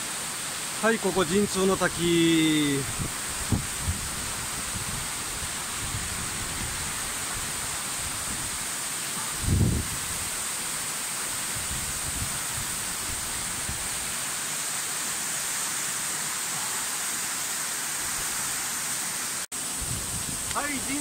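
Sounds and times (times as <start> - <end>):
waterfall pouring into pool: 0.0 - 21.0.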